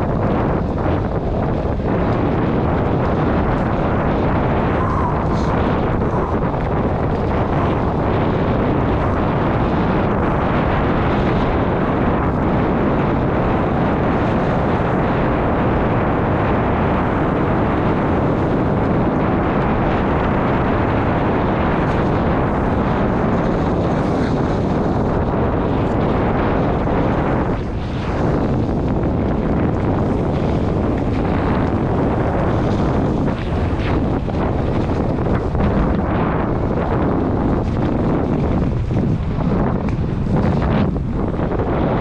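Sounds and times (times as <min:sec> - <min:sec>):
wind rushing on microphone: 0:00.0 - 0:42.0.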